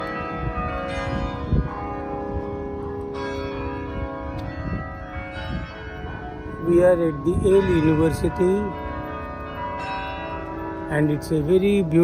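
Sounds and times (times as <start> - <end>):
church bells ringing: 0.0 - 12.0.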